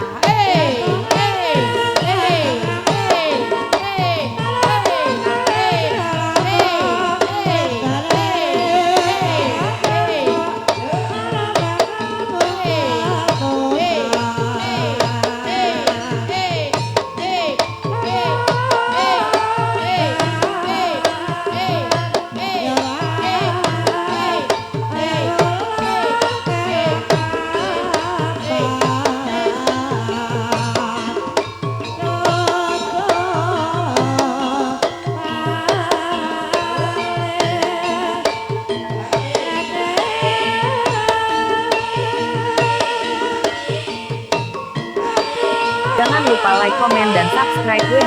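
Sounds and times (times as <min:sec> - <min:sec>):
hand drums: 0:00.0 - 0:48.0
person singing: 0:00.0 - 0:48.0.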